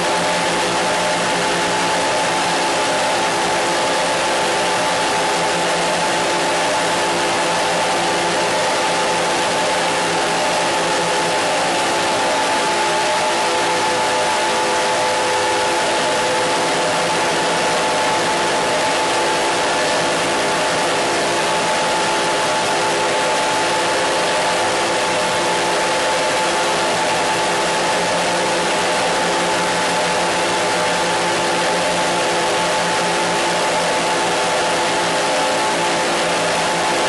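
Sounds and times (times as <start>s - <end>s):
held steady tones: 0.0s - 37.0s.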